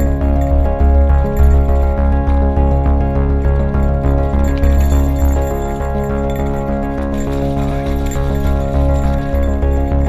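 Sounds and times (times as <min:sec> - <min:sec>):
background music with bass beat: 0:00.0 - 0:10.0.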